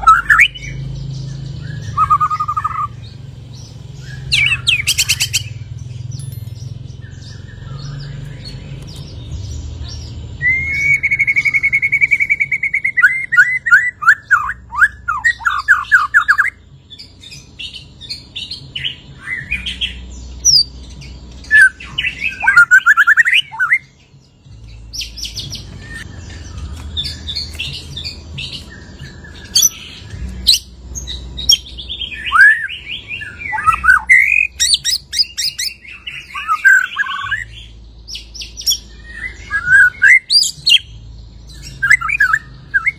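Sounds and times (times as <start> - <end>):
songbird singing trills and whistles: 0.0 - 42.9.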